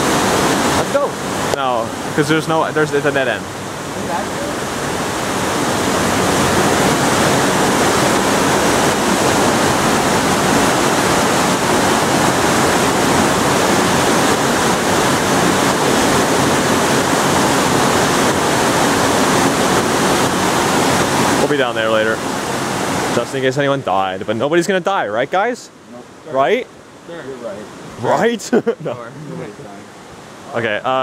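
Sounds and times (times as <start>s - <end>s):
water rushing over rocks: 0.0s - 31.0s.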